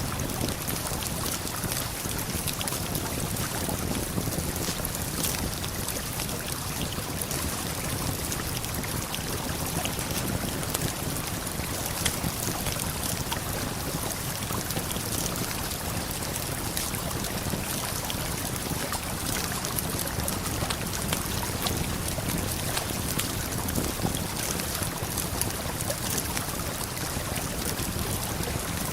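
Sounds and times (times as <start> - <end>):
campfire crackling: 0.2 - 28.9.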